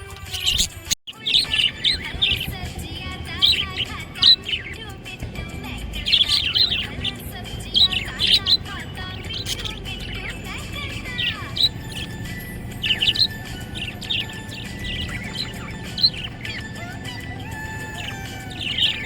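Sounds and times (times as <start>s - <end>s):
budgerigar chirping and warbling: 0.2s - 19.0s.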